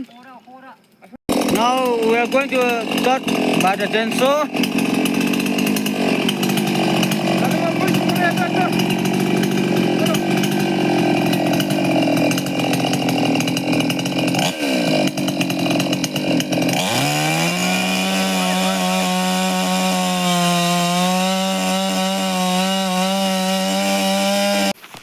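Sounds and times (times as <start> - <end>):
chainsaw cutting wood: 0.8 - 25.0.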